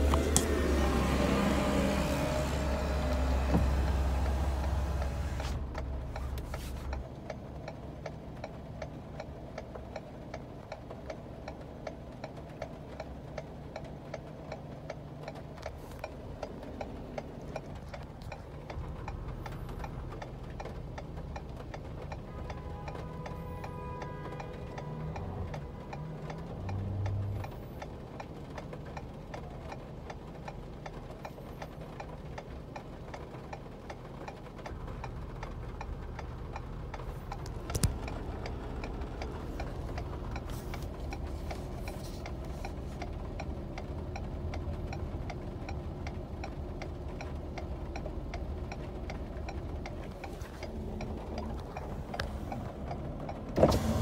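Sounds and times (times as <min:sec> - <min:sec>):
turn signal flasher ticking: 0:00.0 - 0:54.0.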